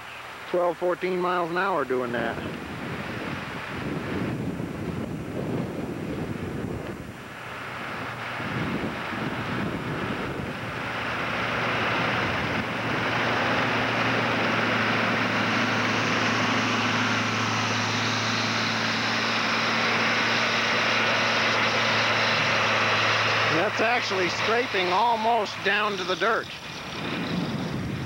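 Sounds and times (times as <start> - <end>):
snowcat engine humming: 0.0 - 28.0
wind buffeting microphone: 2.2 - 28.0.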